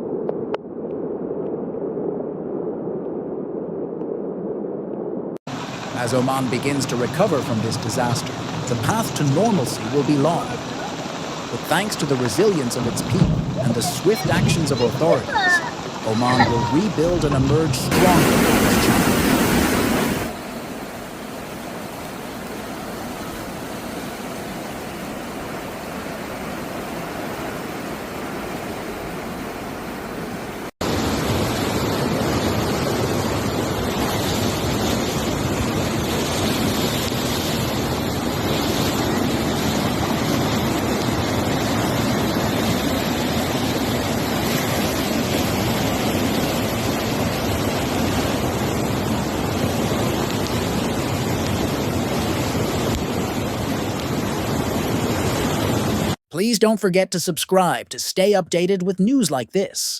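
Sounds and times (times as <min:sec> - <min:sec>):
floodwater rushing: 0:05.5 - 0:56.5.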